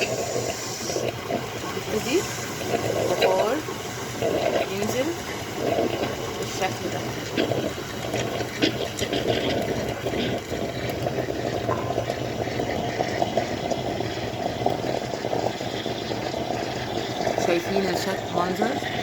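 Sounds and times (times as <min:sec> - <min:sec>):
espresso machine steaming milk: 0:00.0 - 0:19.0.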